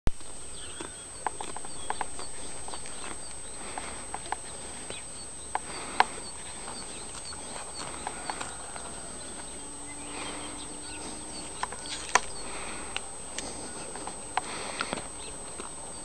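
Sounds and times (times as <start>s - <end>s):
small birds chirping: 0.1s - 16.0s
cow tearing grass: 0.2s - 15.8s.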